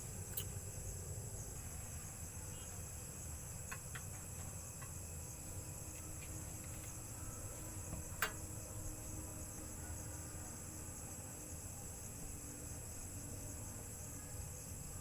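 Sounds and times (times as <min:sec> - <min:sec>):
night crickets chirring: 0:00.0 - 0:15.0.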